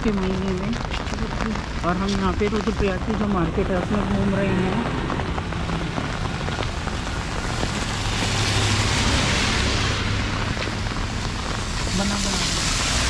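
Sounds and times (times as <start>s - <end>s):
rain hiss: 0.0s - 13.0s
tyres on wet road: 0.0s - 13.0s
vehicle engines humming: 0.0s - 13.0s.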